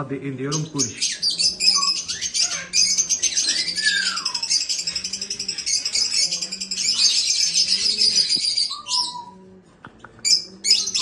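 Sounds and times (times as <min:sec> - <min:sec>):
cage birds chirping: 0:00.0 - 0:11.0.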